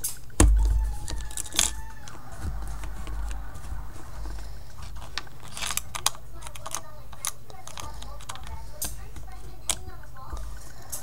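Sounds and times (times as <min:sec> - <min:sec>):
low rumble of handling: 0:00.0 - 0:11.0
mouse trap clicking: 0:00.0 - 0:11.0.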